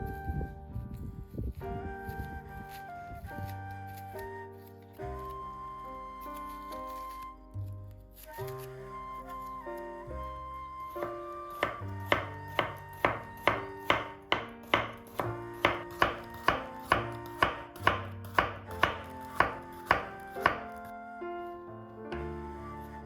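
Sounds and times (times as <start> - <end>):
held musical notes: 2.2 - 23.0.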